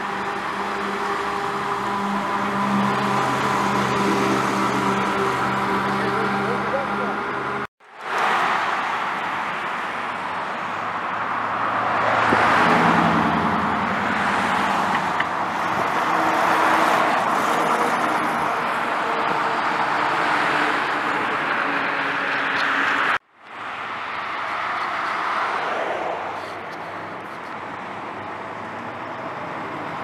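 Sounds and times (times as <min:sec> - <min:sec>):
heavy trucks driving past: 0:00.0 - 0:30.0.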